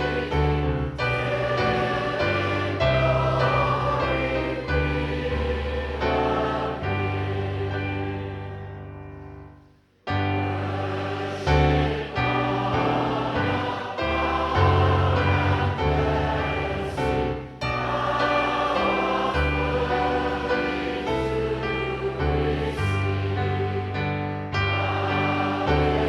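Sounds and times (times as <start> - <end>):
choir singing a hymn: 0.0 - 9.5, 10.1 - 26.0.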